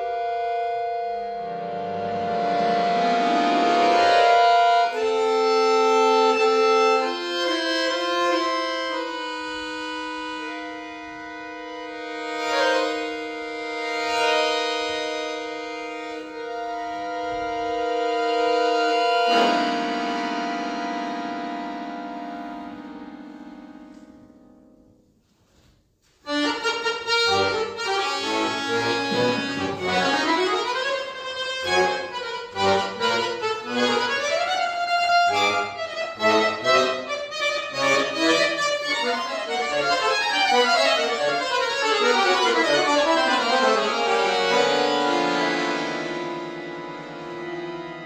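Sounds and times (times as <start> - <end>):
solo accordion playing: 0.0 - 48.0.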